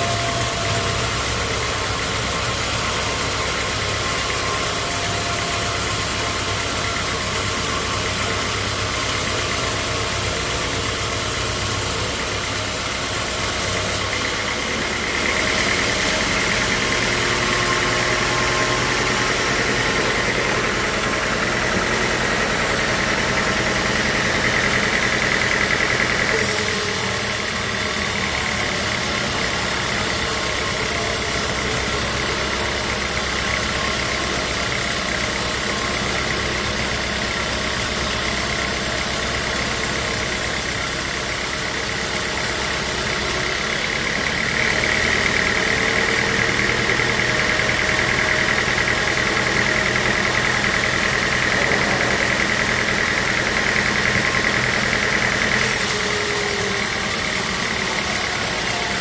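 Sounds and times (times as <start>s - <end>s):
high-pitched machine whine: 0.0s - 59.0s
sawmill machinery running: 0.0s - 59.0s.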